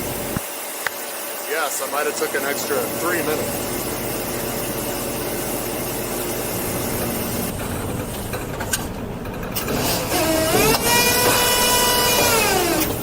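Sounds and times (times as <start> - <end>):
heavy diesel equipment running: 1.6 - 13.0.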